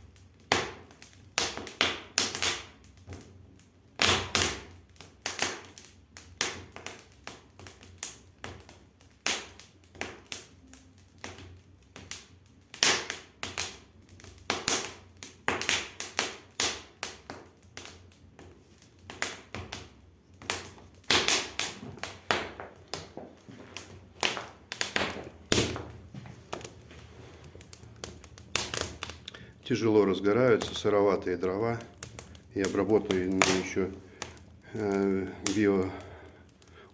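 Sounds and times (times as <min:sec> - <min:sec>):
firewood crackling and popping: 0:00.0 - 0:36.9.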